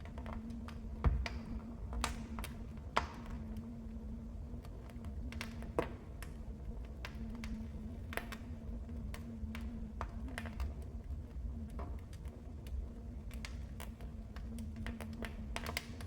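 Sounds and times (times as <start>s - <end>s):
faint steady hum: 0.0s - 16.0s
wood fire crackling: 0.0s - 16.0s.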